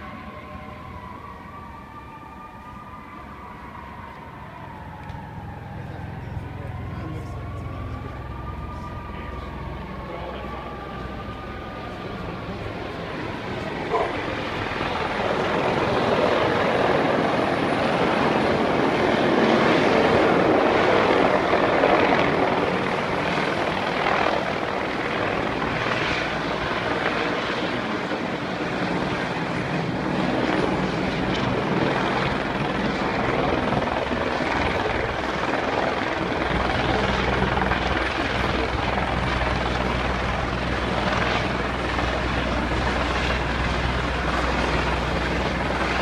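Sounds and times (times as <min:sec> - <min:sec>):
loud engine drone: 0:00.0 - 0:28.6, 0:29.3 - 0:46.0.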